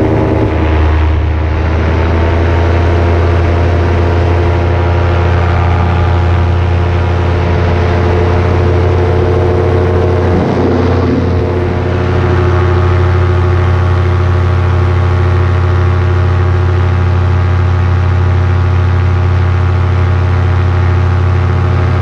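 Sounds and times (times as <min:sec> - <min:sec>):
paramotor engine and propeller: 0:00.0 - 0:22.0.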